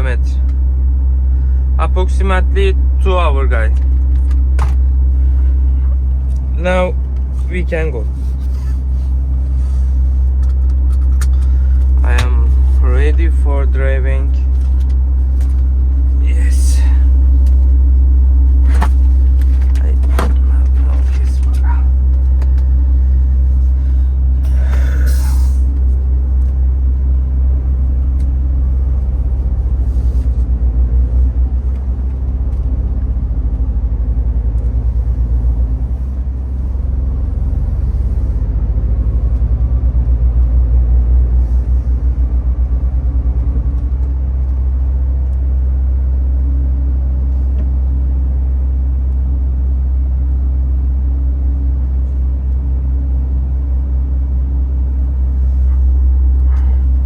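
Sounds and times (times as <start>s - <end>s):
truck diesel engine humming: 0.0s - 57.0s.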